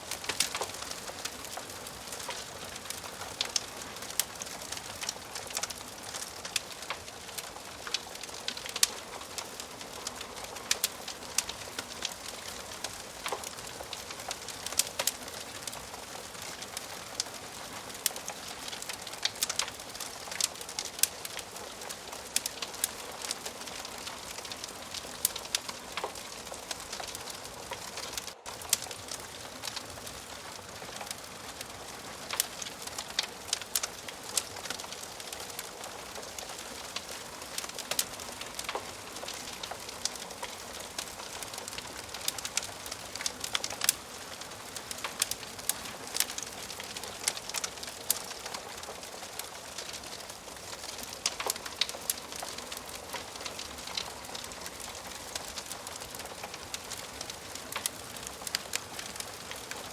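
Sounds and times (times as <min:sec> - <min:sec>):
burning wood popping and snapping: 0:00.0 - 0:59.9
wood fire hissing: 0:00.0 - 0:59.9.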